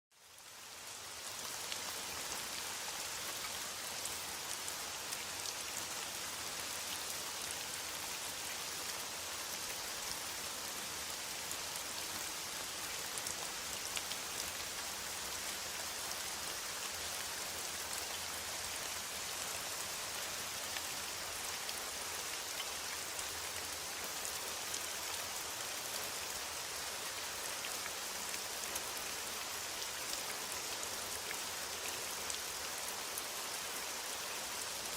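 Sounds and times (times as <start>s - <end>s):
rain falling on foliage: 0.1s - 34.9s.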